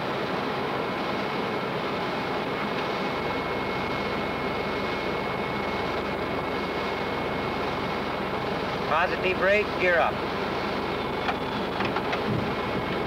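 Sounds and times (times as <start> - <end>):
jet engine noise in cockpit: 0.0 - 13.0
thin high whine: 0.0 - 13.0.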